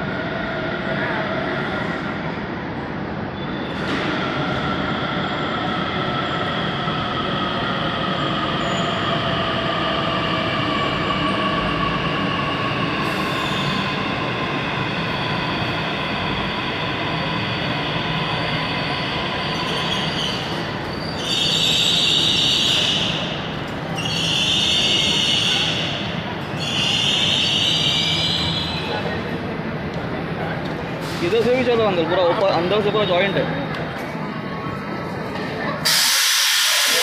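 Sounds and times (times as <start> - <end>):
electric train rumble and whine: 0.0 - 32.2.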